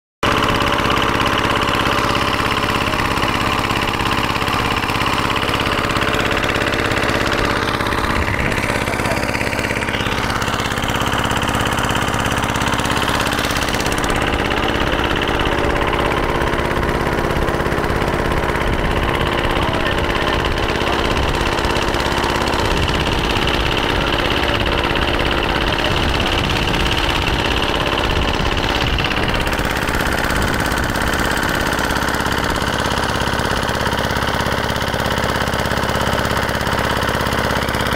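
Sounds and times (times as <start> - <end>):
boat engine running: 0.2 - 37.9.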